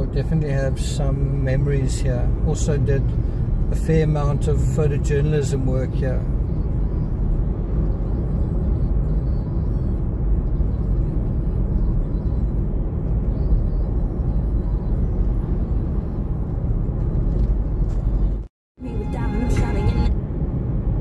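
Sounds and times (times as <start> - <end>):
car driving at highway speed: 0.0 - 21.0.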